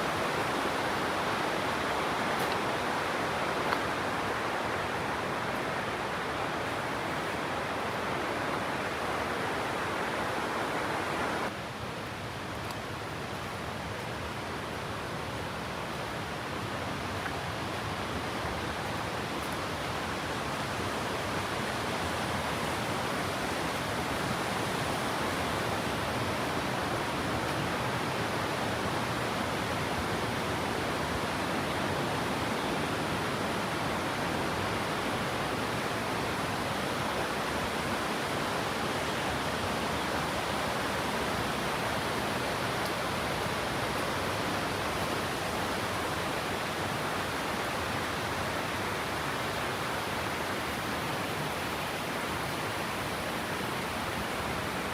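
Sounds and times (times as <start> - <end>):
water rushing: 0.0 - 54.9.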